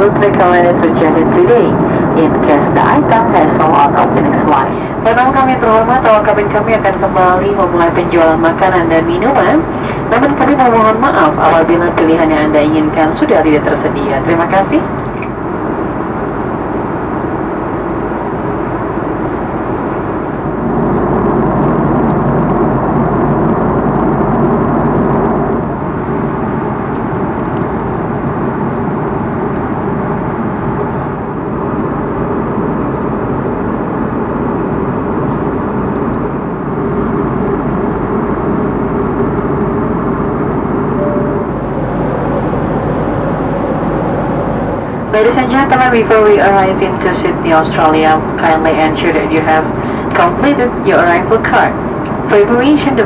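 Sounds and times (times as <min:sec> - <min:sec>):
cabin airflow rush: 0:00.0 - 0:53.0
jet engines droning: 0:00.0 - 0:53.0.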